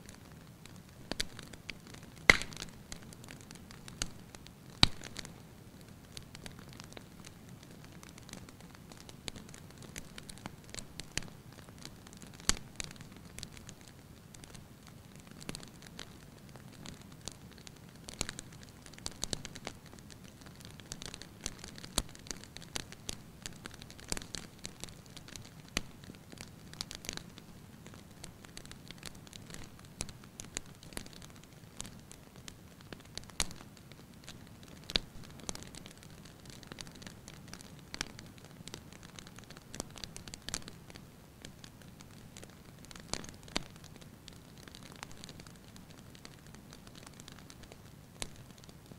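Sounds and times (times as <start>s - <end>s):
low hiss of burning: 0.0s - 48.9s
wood fire crackling and popping: 0.0s - 48.9s.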